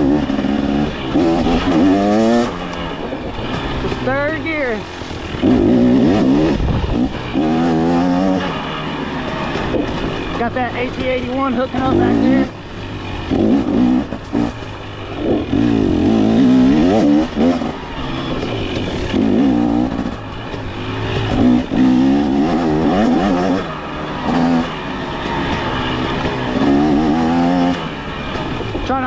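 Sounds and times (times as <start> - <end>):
off-road engine revving: 0.0 - 29.0.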